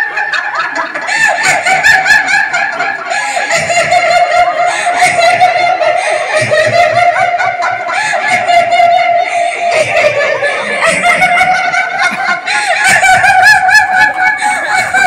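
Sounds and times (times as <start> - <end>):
high-pitched laughter: 0.0 - 15.0.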